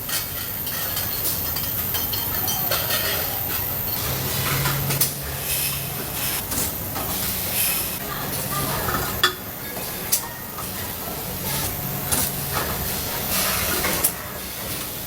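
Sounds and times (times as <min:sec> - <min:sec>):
factory machinery hum and hiss: 0:00.0 - 0:15.0.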